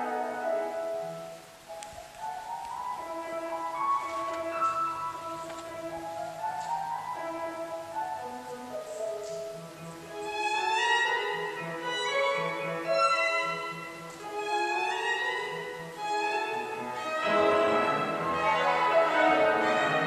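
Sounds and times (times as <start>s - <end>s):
piano accompaniment: 0.0s - 20.0s
violin melody: 0.0s - 20.0s.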